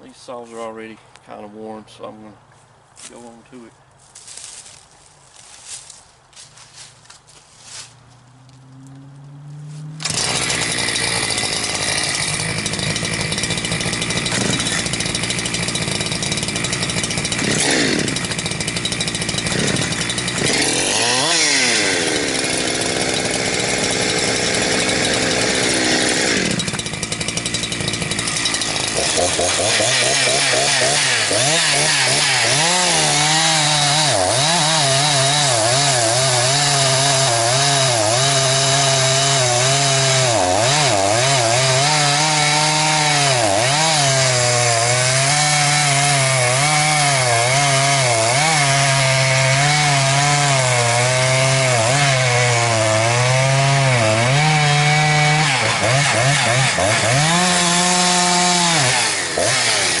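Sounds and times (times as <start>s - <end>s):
chainsaw cutting wood: 7.6s - 60.0s.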